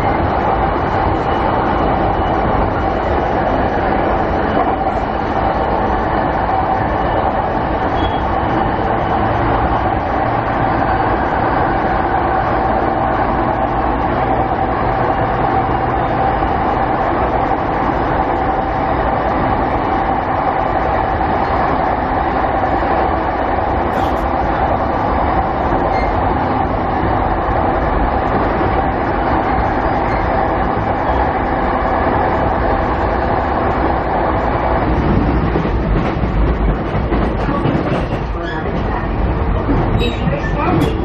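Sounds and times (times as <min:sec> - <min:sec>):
train rolling rumble: 0:00.0 - 0:41.0
train running gear whine: 0:00.0 - 0:41.0.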